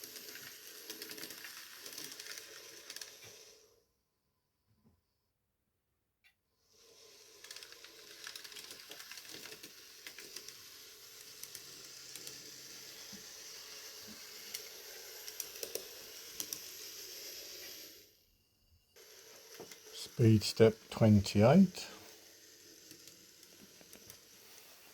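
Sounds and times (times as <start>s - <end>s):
model train motor hiss: 0.0s - 3.9s, 6.6s - 24.9s.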